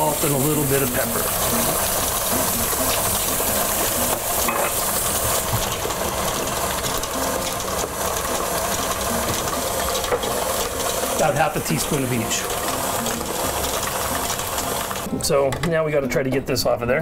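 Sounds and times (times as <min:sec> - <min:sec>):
stand mixer whisk beating: 0:00.0 - 0:15.1.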